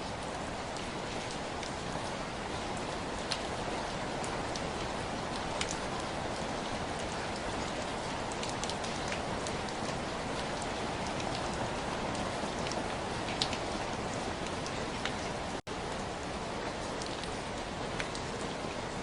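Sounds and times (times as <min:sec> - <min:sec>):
rain on hard surfaces: 0:00.0 - 0:19.0.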